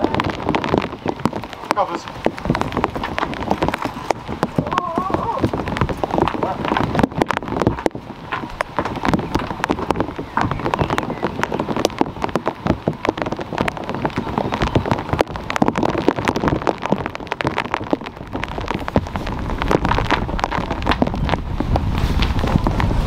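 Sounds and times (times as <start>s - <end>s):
patter of small taps and crackles: 0.0s - 23.0s.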